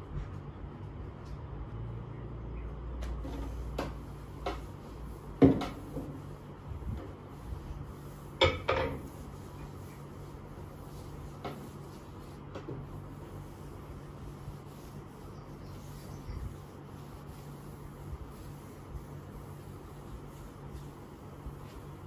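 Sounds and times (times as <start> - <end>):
low steady hum: 0.0 - 22.0
cloth wiping wooden table: 3.2 - 22.0.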